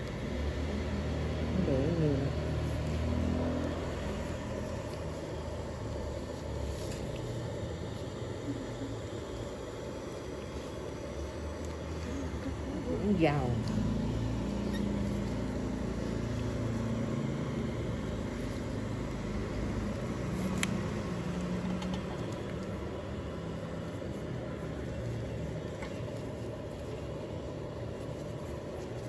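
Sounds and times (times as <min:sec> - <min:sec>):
low mechanical rumble: 0:00.0 - 0:29.0.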